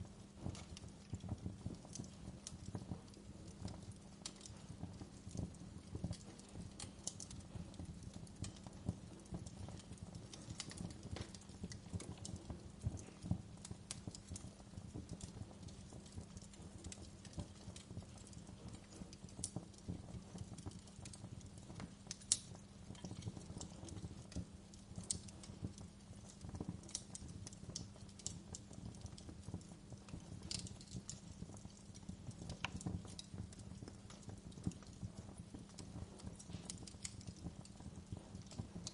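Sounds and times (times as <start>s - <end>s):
low rumble of burning logs: 0.0s - 38.9s
wood fire crackling: 0.0s - 38.9s.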